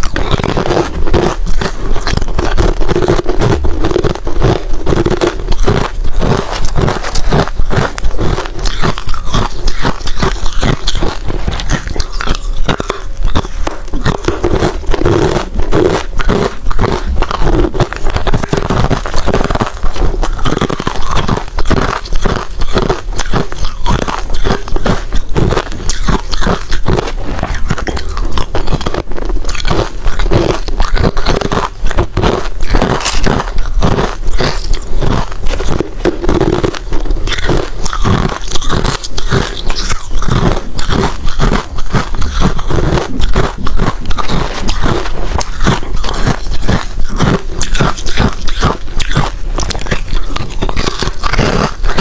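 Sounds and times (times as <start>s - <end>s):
crunching ice between teeth: 0.0s - 52.0s.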